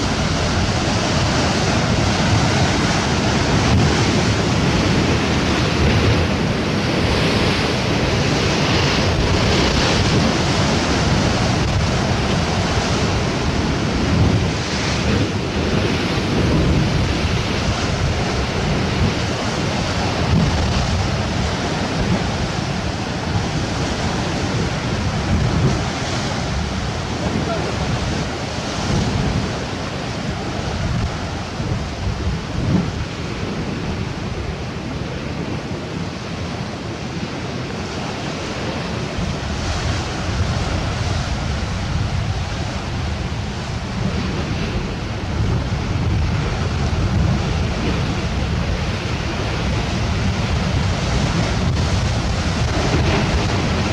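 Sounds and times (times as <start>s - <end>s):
sea surf washing in: 0.0s - 53.9s
wind rumbling on microphone: 0.0s - 53.9s.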